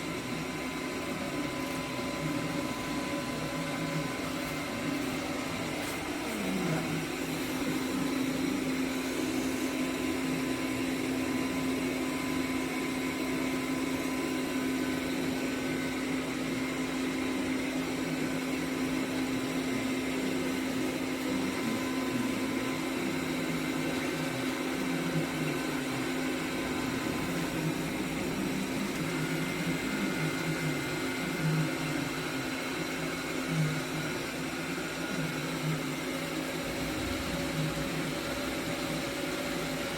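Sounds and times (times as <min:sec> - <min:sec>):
robot vacuum motor humming: 0:00.0 - 0:39.9.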